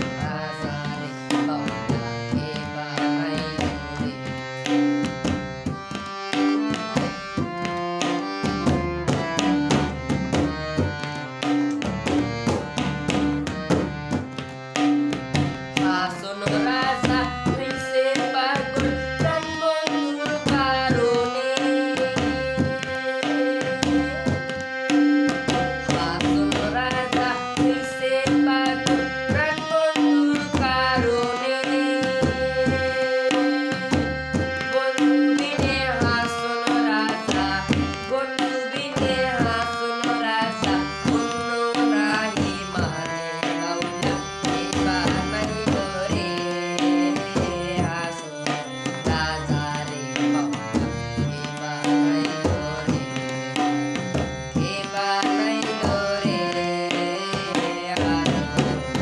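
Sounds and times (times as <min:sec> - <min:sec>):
electronic keyboard folk melody: 0:00.0 - 0:59.0
tabla-like rhythm: 0:00.0 - 0:59.0
young man singing: 0:00.0 - 0:59.0.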